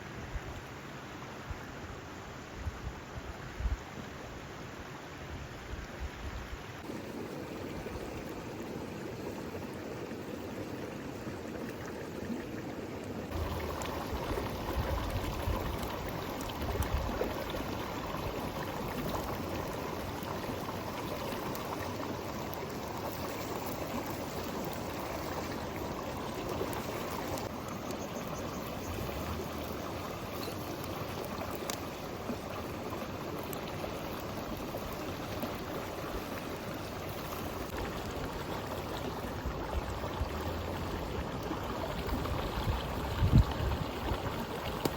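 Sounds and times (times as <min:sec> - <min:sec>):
rushing water: 0:04.6 - 0:44.9.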